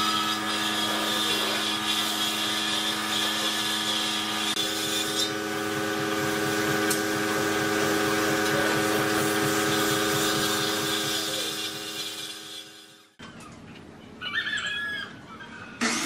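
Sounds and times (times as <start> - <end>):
air spray gun hissing: 0.0 - 13.1
steady mechanical hum: 0.0 - 16.0.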